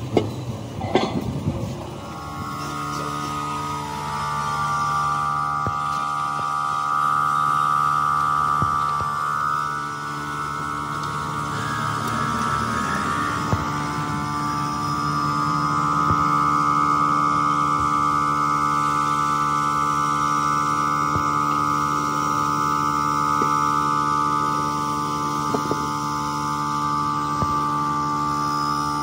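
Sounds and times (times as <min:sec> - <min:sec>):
workshop machinery hum and whine: 0:00.0 - 0:29.0.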